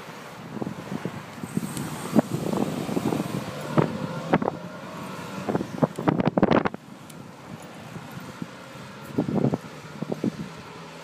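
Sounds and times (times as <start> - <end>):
wind on microphone: 0.4 - 10.8.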